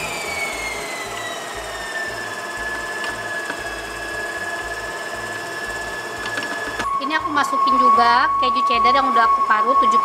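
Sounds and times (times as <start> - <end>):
stand mixer motor whine: 0.0 - 10.0.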